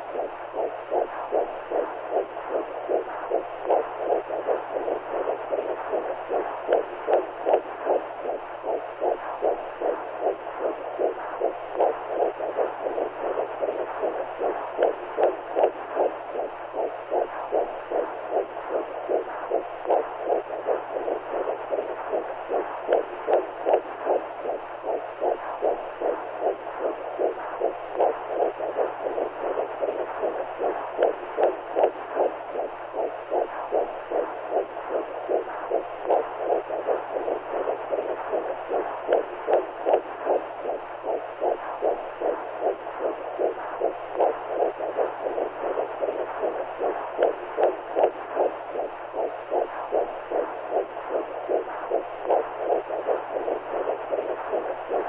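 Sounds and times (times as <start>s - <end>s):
low steady hum: 0.0s - 55.0s
rhythmic whooshing heartbeat pulse: 0.0s - 55.0s.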